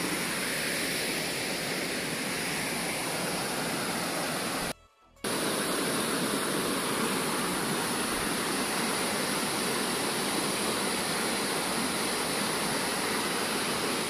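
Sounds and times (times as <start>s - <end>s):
water rushing over stones: 0.0s - 4.7s, 5.3s - 14.0s.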